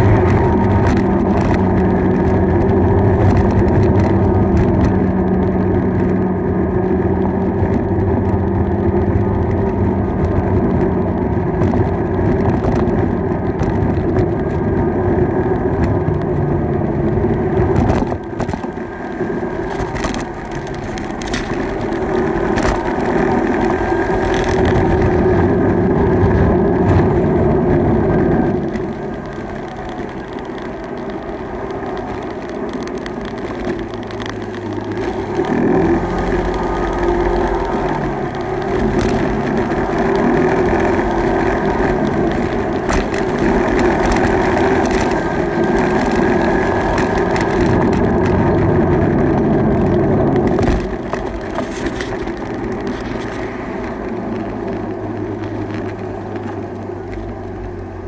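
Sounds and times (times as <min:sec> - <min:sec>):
clicks and knocks from bumps: 0:00.0 - 0:06.3, 0:07.4 - 0:16.4, 0:17.2 - 0:58.0
bicycle road noise on tarmac: 0:00.0 - 0:58.0
wind noise: 0:00.0 - 0:58.0.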